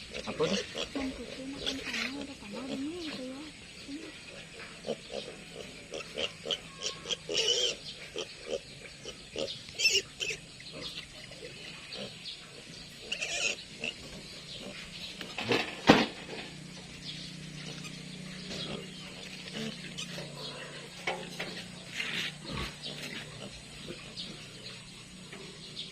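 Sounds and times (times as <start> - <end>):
piglets grunting and squealing: 0.0 - 25.9.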